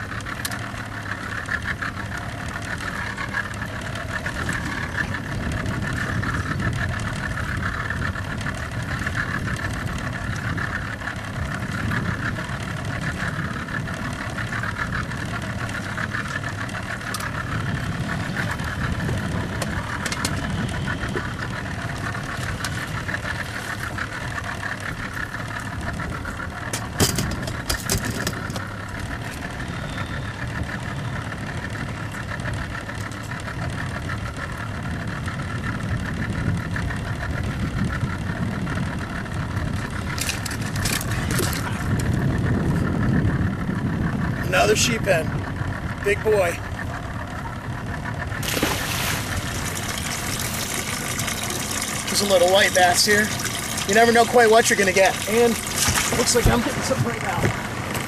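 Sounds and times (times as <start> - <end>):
outboard motor running: 0.0 - 58.0
water noise: 0.0 - 58.0
wind noise: 3.0 - 32.9, 33.6 - 58.0.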